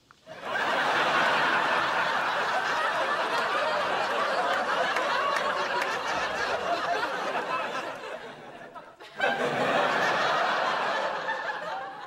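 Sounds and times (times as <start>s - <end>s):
studio audience laughing: 0.3s - 12.0s.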